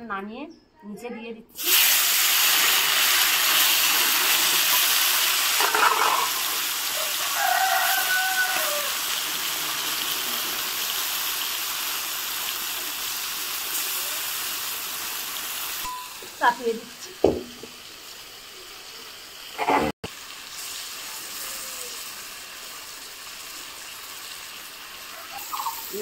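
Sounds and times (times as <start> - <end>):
food sizzling in hot oil: 1.6 - 26.0.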